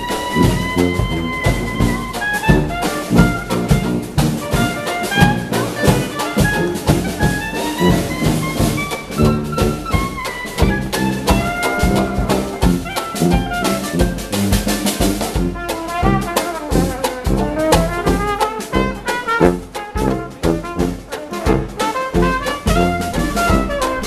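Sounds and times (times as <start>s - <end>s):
jazz street band playing: 0.0s - 24.0s.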